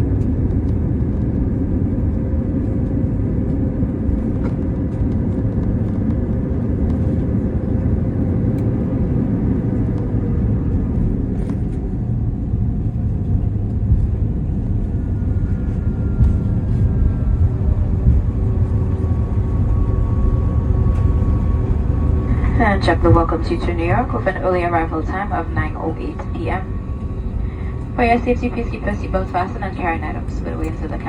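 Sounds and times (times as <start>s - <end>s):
aircraft cabin low rumble: 0.0s - 31.0s.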